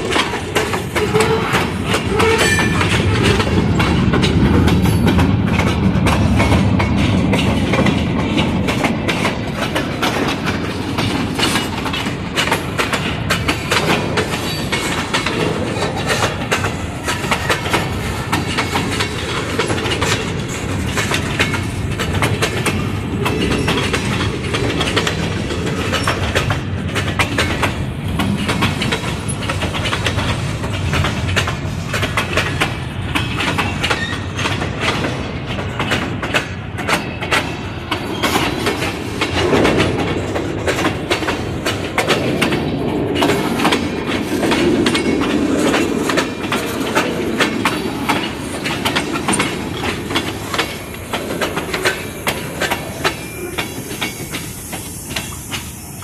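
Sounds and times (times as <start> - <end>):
train wheels rumbling on rails: 0.0 - 56.0
wheels clicking and clanking on track: 0.0 - 56.0.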